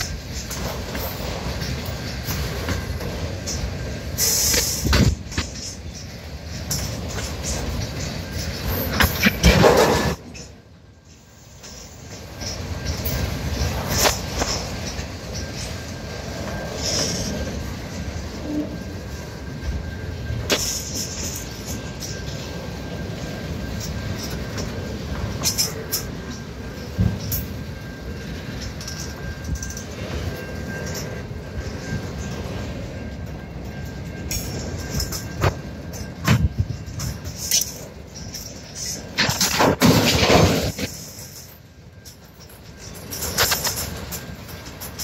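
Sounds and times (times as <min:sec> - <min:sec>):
thin steady whine: 0:00.0 - 0:45.0
train wheels rumbling on rail: 0:00.0 - 0:45.0
wheels clicking over rail joints: 0:00.0 - 0:45.0.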